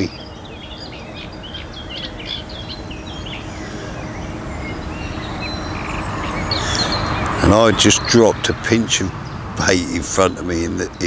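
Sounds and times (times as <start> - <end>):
warbler singing chattering notes: 0.0 - 11.0.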